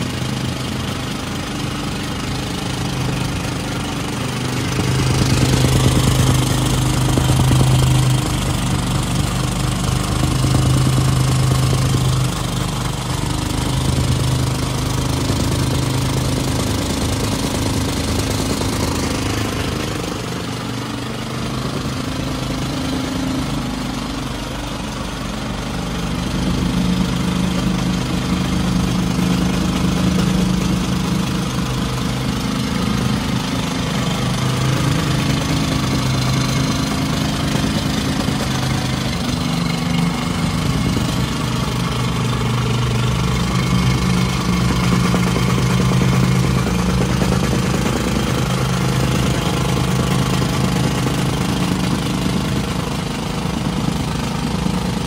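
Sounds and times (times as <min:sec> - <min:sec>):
tamping rammer engine droning: 0:00.0 - 0:55.0.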